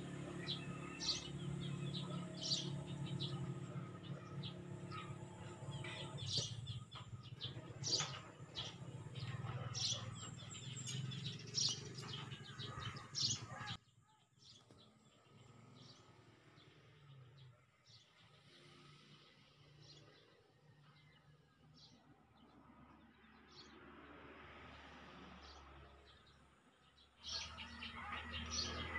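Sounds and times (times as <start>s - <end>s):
small birds chirping: 0.0s - 23.8s.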